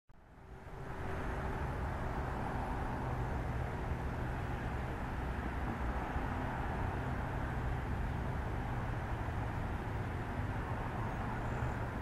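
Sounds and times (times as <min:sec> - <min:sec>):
diesel locomotive rumble: 0:00.3 - 0:12.0.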